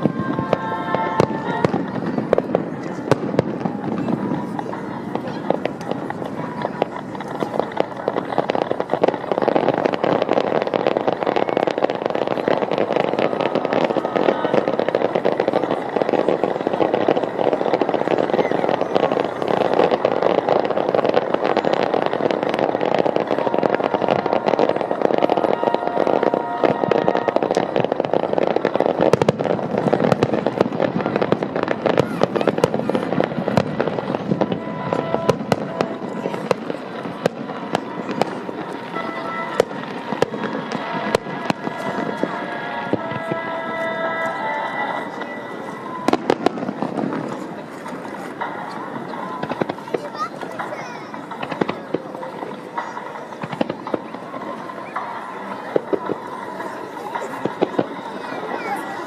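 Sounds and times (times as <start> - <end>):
music playing: 0.0 - 3.1, 4.4 - 59.0
fireworks bursting and crackling: 0.0 - 59.0.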